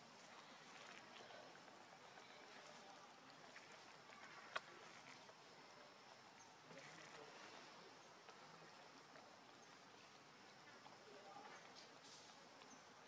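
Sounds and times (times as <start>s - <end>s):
faint outdoor background hiss: 0.0s - 13.0s.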